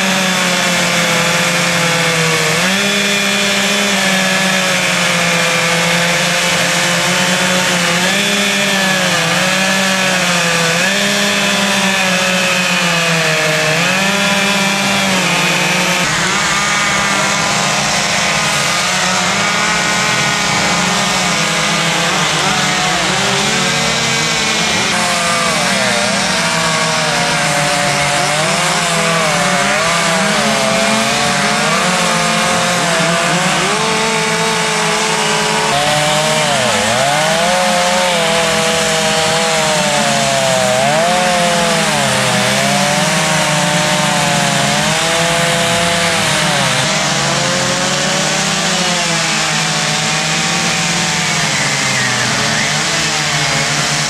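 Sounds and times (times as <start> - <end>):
chainsaws cutting wood: 0.0 - 54.0.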